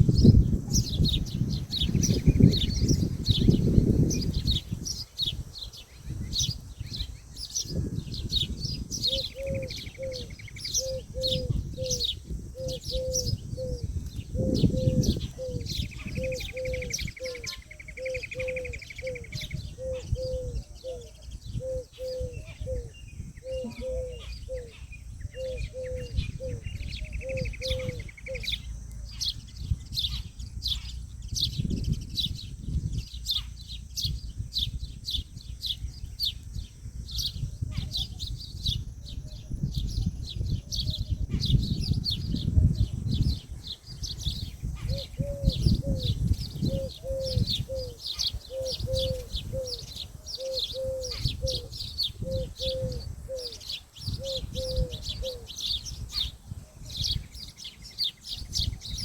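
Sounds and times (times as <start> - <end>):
birds chirping: 0.0 - 59.0
low wind rumble: 0.0 - 59.0.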